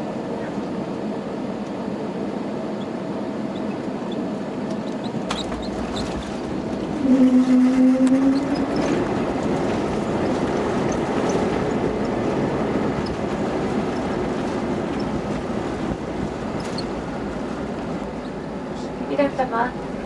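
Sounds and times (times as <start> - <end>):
jet engine noise: 0.0 - 20.0
wheels rumbling on runway: 0.0 - 20.0.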